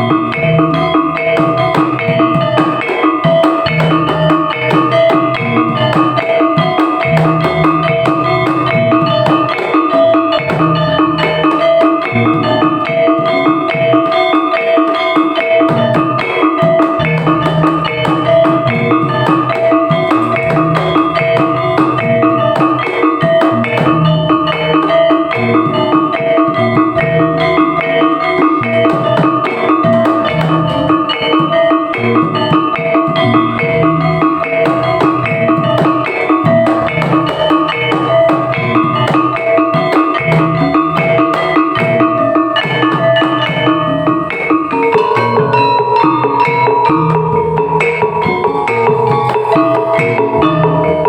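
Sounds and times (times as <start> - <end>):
drums beating fast rhythm: 0.0 - 51.0
ringing tuned metal percussion: 0.0 - 51.0.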